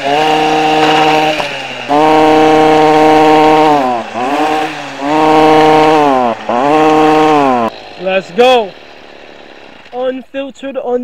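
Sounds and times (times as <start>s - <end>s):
string trimmer engine revving: 0.0s - 10.4s.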